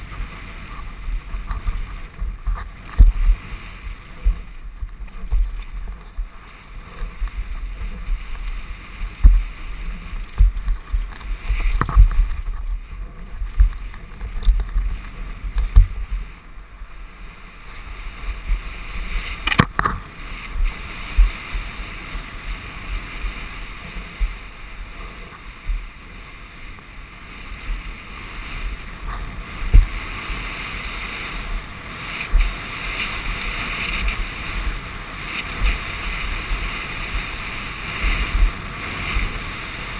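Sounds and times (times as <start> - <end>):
bike thudding over bumps: 0.0 - 39.9
tyres on loose ground: 0.0 - 39.9
wind rushing over camera: 0.0 - 39.9.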